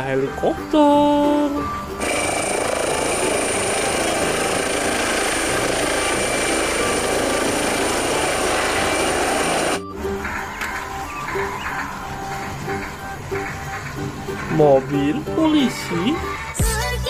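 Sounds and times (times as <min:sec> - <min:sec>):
high turbine whine: 0:01.7 - 0:16.7
helicopter rotor chop: 0:02.0 - 0:15.9.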